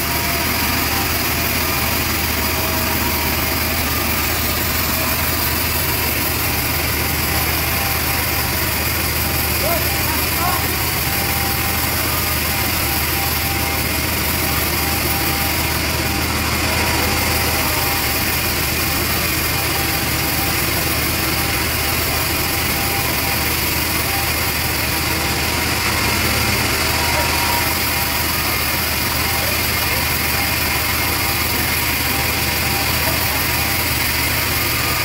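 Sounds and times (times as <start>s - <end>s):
band saw cutting log: 0.0s - 35.0s.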